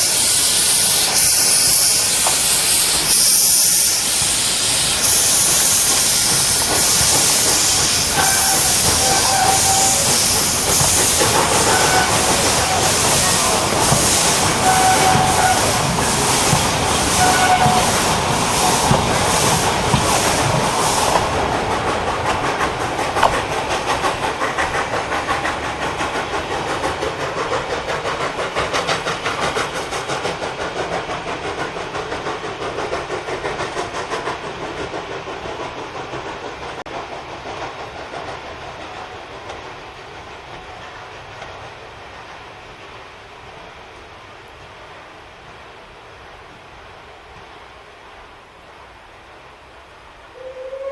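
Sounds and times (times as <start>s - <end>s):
steam locomotive chuffing: 0.0s - 47.8s, 48.8s - 50.9s.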